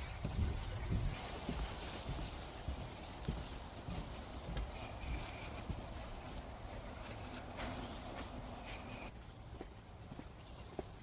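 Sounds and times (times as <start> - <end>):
faint footsteps on a path: 0.0 - 11.0.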